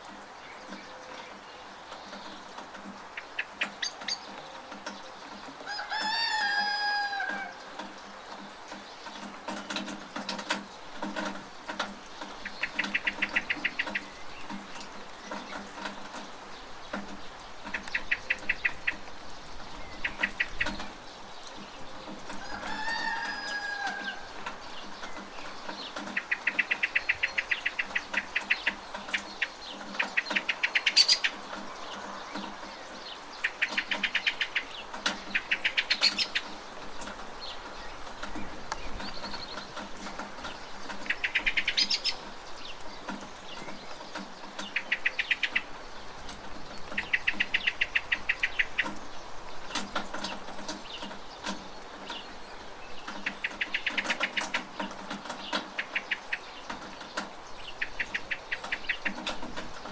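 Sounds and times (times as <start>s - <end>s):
birds chattering trills: 0.0s - 59.9s
steady rain: 0.0s - 59.9s.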